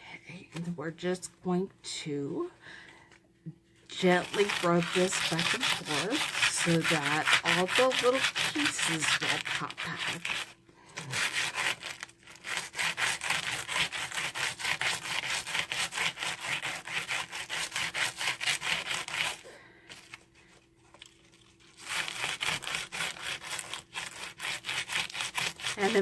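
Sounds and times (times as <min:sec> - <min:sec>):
brush scrubbing over cardstock: 0:03.9 - 0:20.2, 0:21.3 - 0:26.0.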